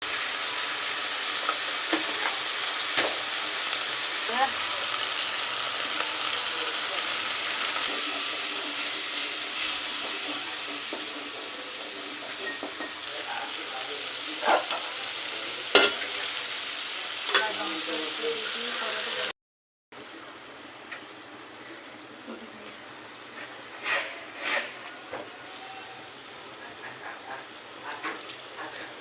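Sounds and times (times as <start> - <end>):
food sizzling in hot oil: 0.0 - 19.3, 22.8 - 29.0.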